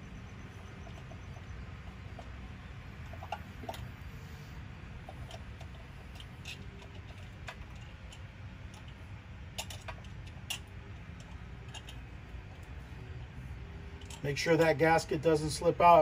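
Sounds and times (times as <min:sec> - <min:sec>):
steady low hum: 0:00.0 - 0:16.0
carburetor parts clicking and tapping: 0:00.4 - 0:04.1, 0:05.0 - 0:14.4.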